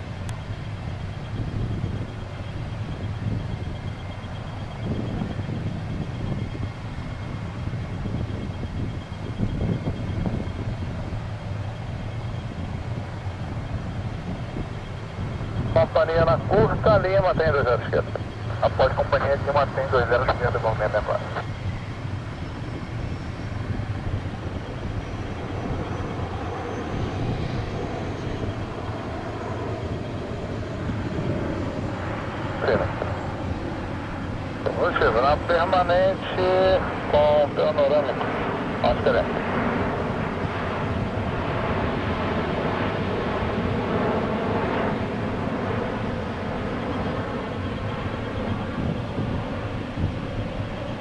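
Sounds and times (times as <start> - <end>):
faint jet engine whine: 0.0 - 51.0
jet engine rumble: 0.0 - 51.0.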